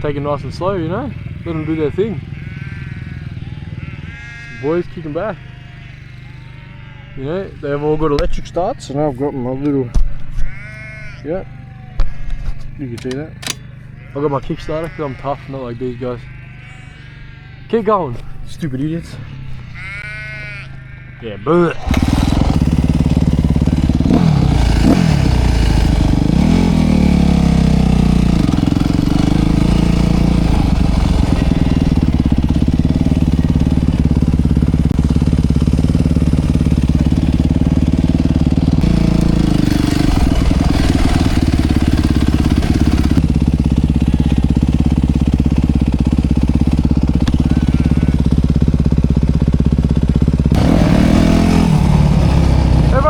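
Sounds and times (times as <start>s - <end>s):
dirt bike engine revving: 0.0s - 9.4s, 18.8s - 53.0s.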